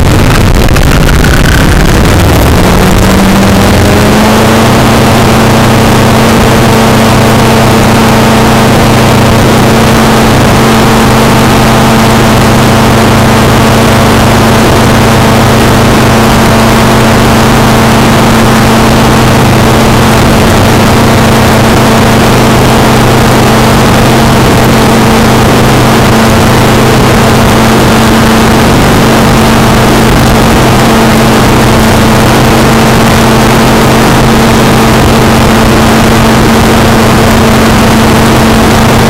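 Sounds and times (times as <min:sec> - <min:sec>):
helicopter motor and rotor hum: 0:00.0 - 0:39.0
wind noise on microphone: 0:00.0 - 0:39.0.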